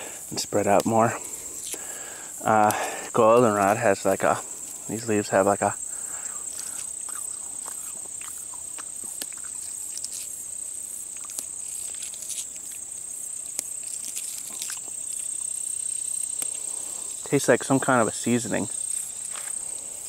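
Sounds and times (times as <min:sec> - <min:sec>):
insect chorus: 0:00.0 - 0:20.0
rustles and snaps of grass stems: 0:00.4 - 0:19.7.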